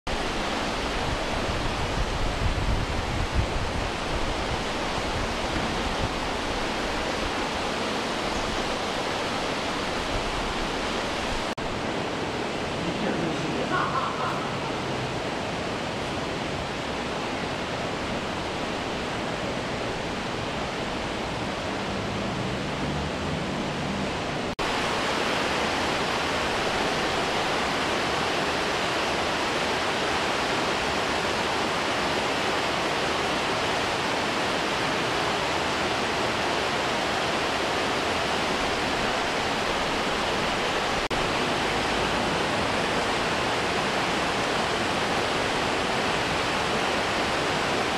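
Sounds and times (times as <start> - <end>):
river water spilling over weir: 0.1 - 47.9
steady rushing noise: 0.1 - 47.9.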